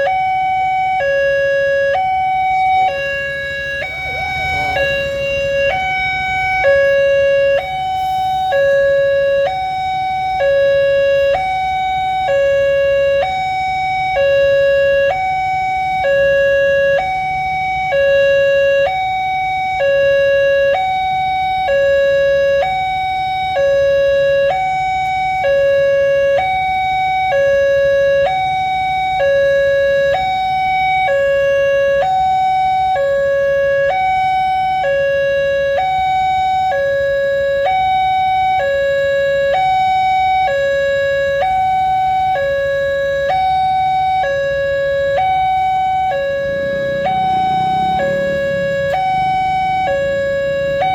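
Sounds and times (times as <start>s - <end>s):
level crossing two-tone alarm: 0.0s - 50.9s.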